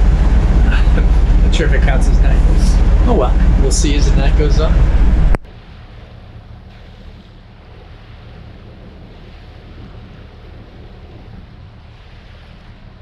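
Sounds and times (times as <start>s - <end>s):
low hum: 0.0s - 13.0s
water rushing past boat: 0.0s - 13.0s
wind rushing: 0.0s - 13.0s.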